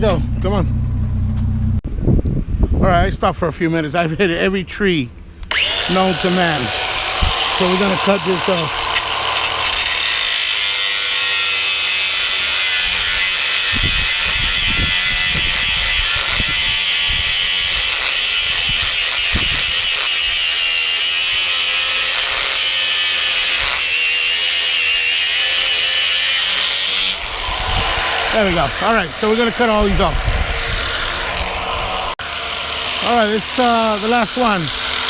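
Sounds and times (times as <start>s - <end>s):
power tool cutting with whine: 5.5s - 35.0s.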